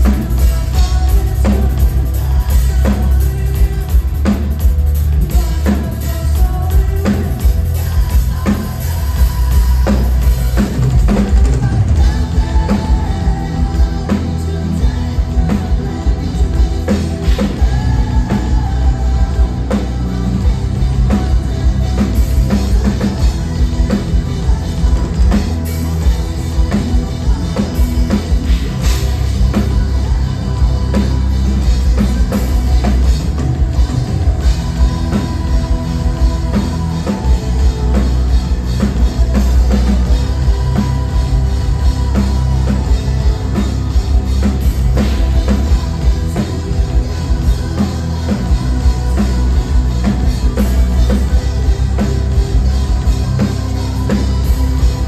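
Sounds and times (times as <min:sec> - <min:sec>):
live heavy rock band: 0:00.0 - 0:55.0
pounding drum kit: 0:00.0 - 0:55.0.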